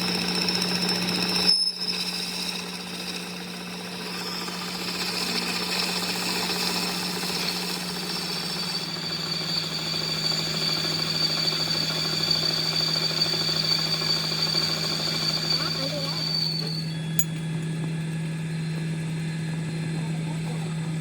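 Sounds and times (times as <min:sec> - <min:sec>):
machine high whine: 0:00.0 - 0:17.9.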